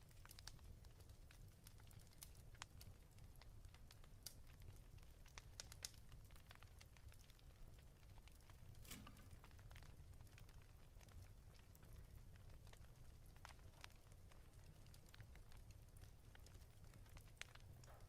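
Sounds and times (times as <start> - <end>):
fireplace crackling: 0.0 - 18.0.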